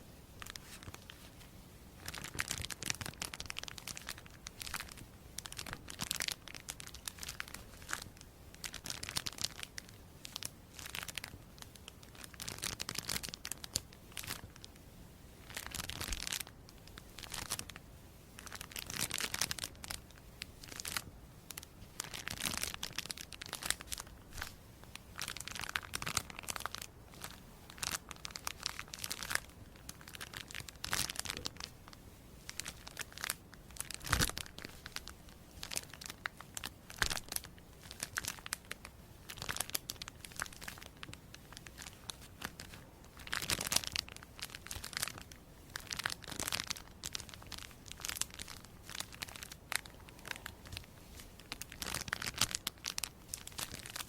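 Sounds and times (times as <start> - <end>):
crisp material crinkling: 0.4 - 14.8, 15.4 - 17.8, 18.4 - 54.0.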